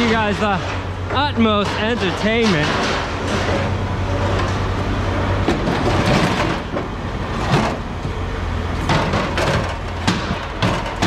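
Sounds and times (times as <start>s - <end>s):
heavy machinery engine humming: 0.0s - 11.0s
machinery knocks and clanks: 0.0s - 11.0s.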